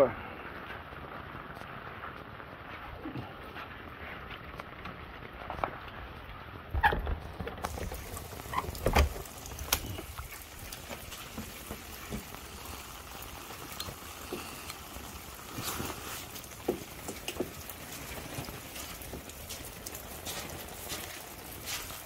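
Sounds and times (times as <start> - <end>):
rain pattering on umbrella: 0.0 - 22.0.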